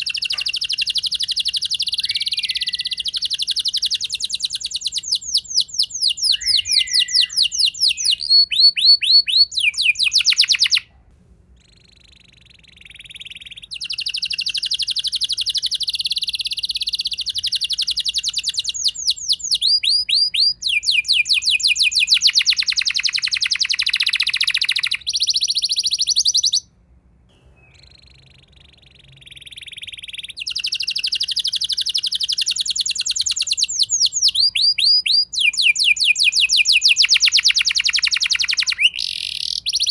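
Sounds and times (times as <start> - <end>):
canary singing trills: 0.0 - 10.9, 11.6 - 26.7, 27.3 - 39.9.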